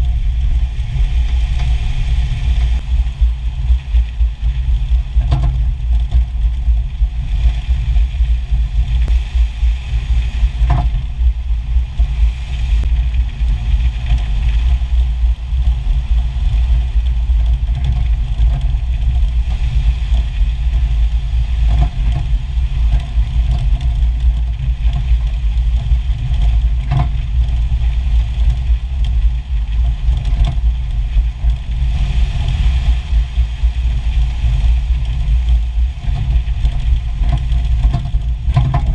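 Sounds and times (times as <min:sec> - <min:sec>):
vehicle engine low rumble: 0:00.0 - 0:38.9.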